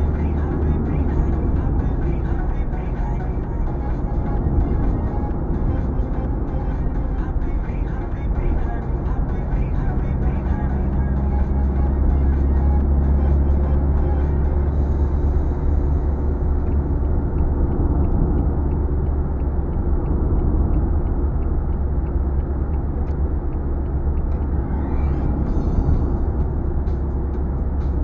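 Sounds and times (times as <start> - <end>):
car driving on wet road: 0.0 - 28.0
faint regular ticking: 0.0 - 28.0.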